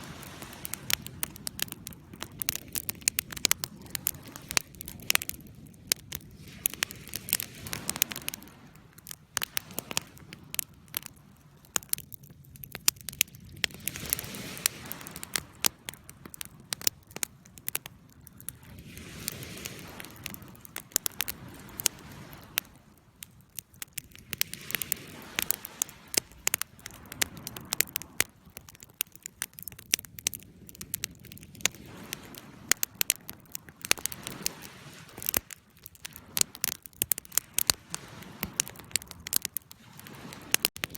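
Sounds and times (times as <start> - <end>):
sharp pops of fire: 0.0 - 40.9
wood fire crackling: 0.0 - 40.9.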